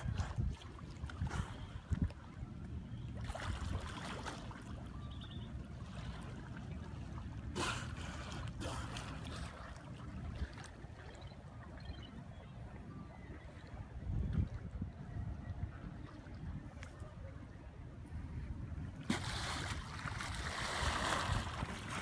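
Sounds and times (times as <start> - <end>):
moving water: 0.0 - 22.0
wind rumbling on microphone: 0.0 - 22.0.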